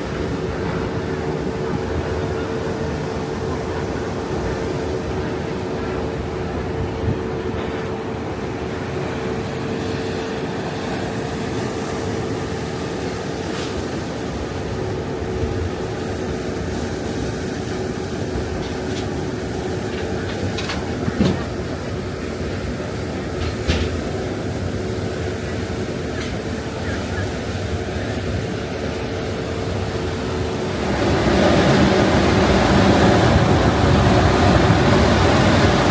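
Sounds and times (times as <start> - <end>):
boat engines droning: 0.0 - 35.9.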